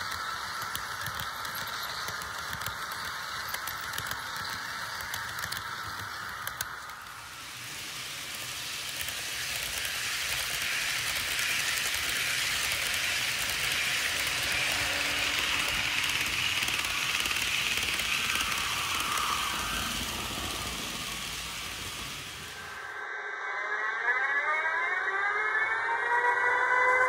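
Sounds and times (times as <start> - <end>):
model train wheels rumbling: 0.0 - 22.9.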